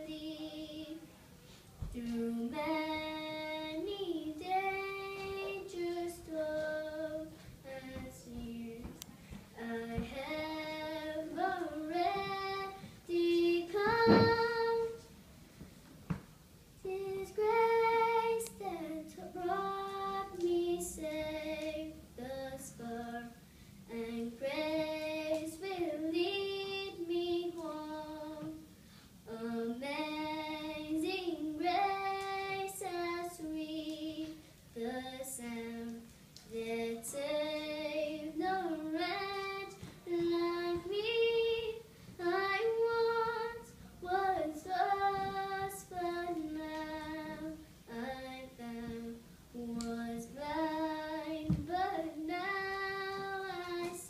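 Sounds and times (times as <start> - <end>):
girl singing: 0.0 - 1.2, 1.8 - 15.2, 16.8 - 54.0.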